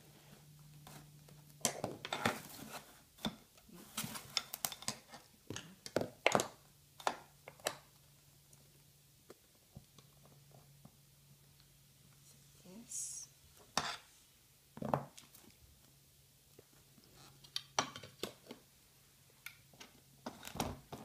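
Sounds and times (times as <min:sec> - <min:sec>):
faint steady low hum: 0:00.0 - 0:21.0.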